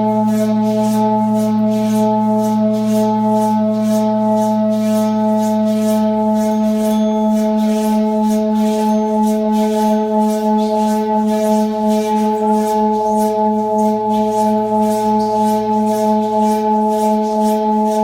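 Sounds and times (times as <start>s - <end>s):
temple gong humming drone: 0.0s - 18.0s.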